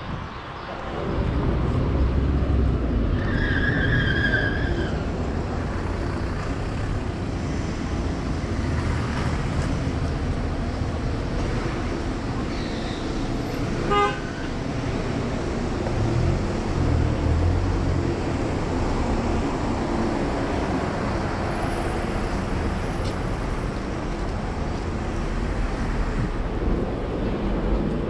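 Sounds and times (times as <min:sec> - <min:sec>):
hum of passing cars: 0:00.0 - 0:28.0.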